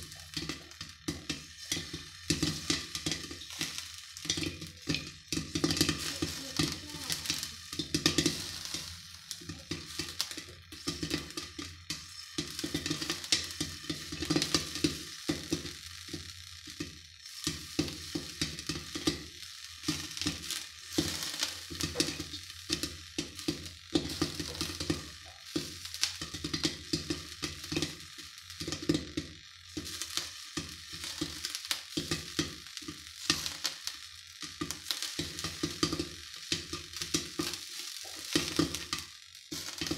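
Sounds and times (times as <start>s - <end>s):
oil sizzling: 0.0s - 39.9s
popcorn popping: 0.0s - 39.9s.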